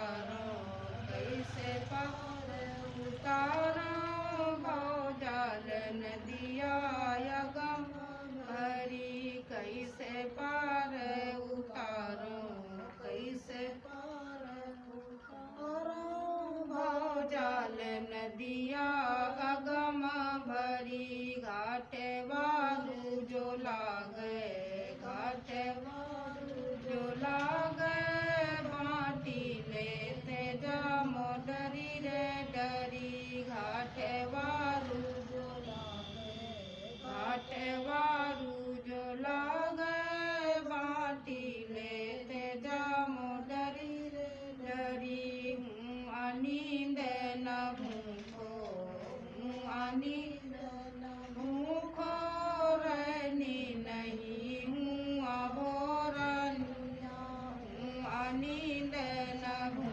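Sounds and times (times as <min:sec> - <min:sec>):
women chanting devotional song: 0:00.0 - 0:59.9.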